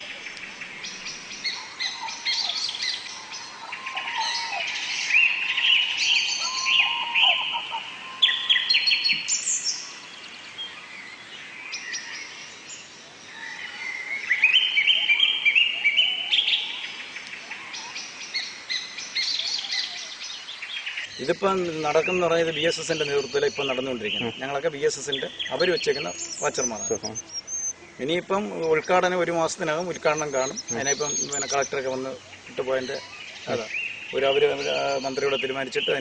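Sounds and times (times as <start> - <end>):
wild birds chirping and singing: 0.0 - 36.0.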